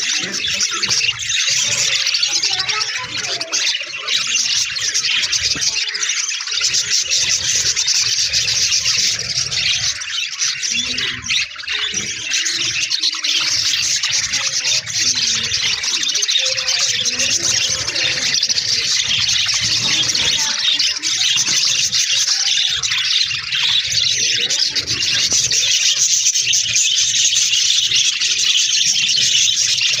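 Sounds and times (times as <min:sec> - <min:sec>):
budgerigars chattering: 0:00.0 - 0:30.0.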